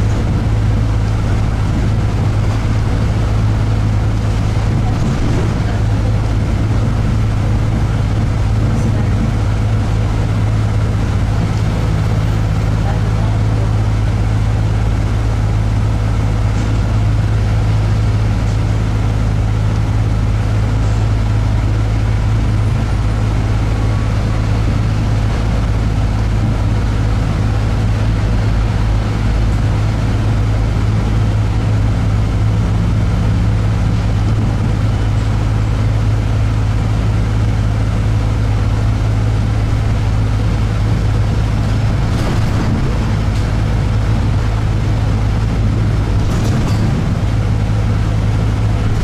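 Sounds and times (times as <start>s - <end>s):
bus engine and road drone: 0.0s - 49.0s.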